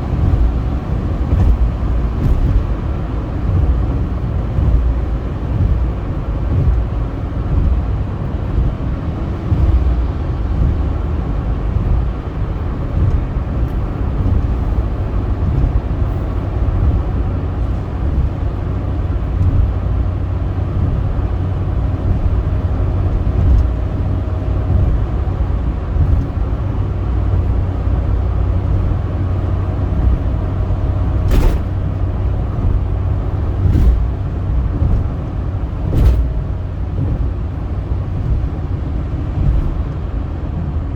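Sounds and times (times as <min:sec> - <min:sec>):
car driving on highway: 0:00.0 - 0:40.9.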